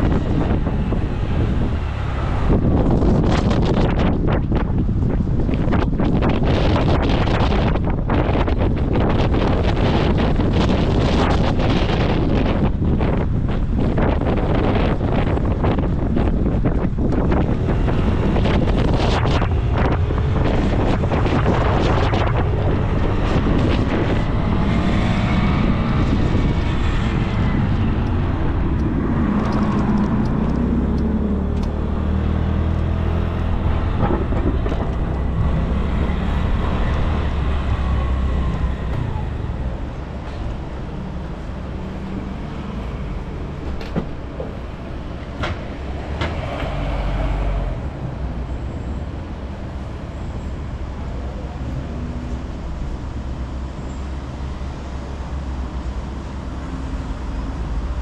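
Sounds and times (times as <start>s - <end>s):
vehicles passing: 0.0s - 58.0s
wind buffeting microphone: 0.0s - 58.0s.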